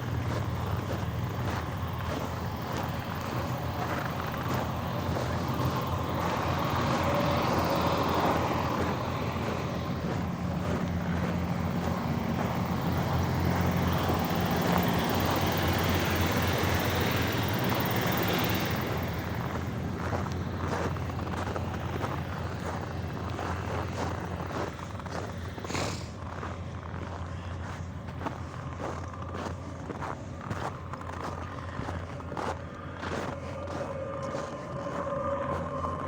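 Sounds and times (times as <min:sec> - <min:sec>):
road noise: 0:00.0 - 0:36.0
vehicle engine droning: 0:00.0 - 0:36.0.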